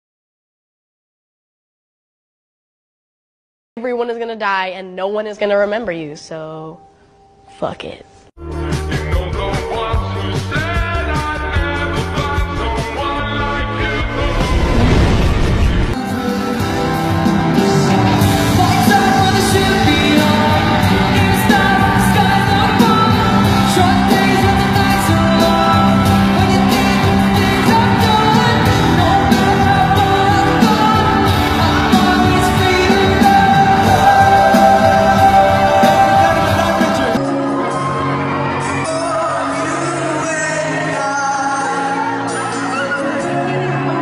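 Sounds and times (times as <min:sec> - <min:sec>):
pop music with singing: 0:08.4 - 0:44.0.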